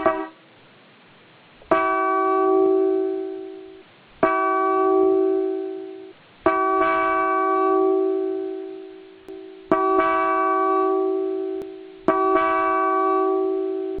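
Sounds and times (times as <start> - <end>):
bell-like horn chord blasts: 1.8 - 14.0.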